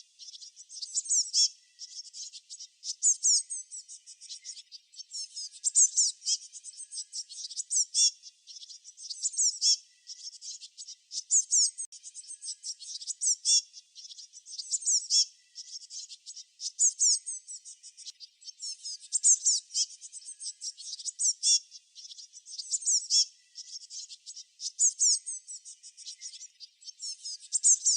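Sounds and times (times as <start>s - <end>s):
small songbirds chirping: 0.0s - 27.9s.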